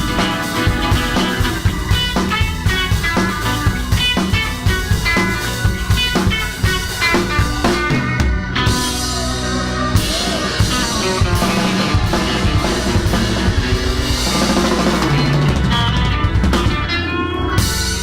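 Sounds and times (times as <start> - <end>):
drum kit: 0.0 - 18.0
guitar and keyboard chords: 0.0 - 18.0.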